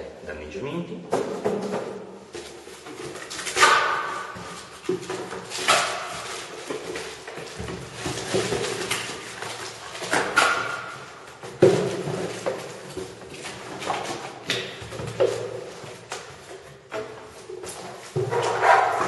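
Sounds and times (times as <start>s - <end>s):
plastic and cardboard rustling: 1.1s - 19.0s.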